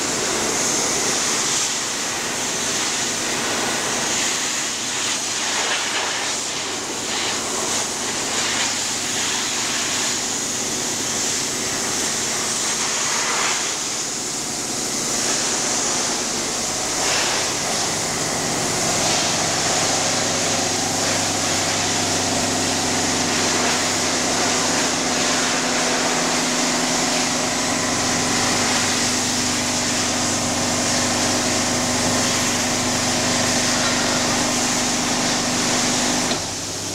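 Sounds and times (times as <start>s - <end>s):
electric motor and pump humming: 0.0s - 36.9s.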